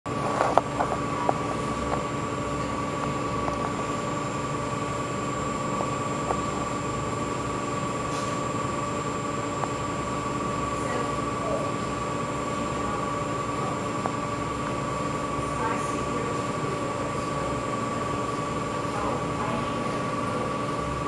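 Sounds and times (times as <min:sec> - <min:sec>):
steady machine hum: 0:00.1 - 0:21.0.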